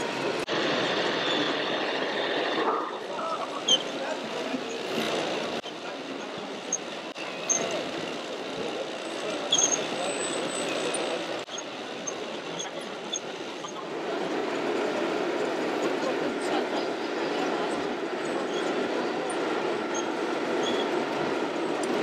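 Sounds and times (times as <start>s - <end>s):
murmur of many voices: 2.4s - 22.0s.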